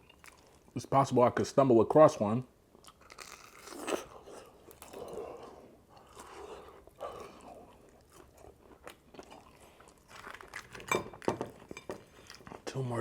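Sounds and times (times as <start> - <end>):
person chewing and crunching: 0.0 - 0.8, 2.7 - 12.7.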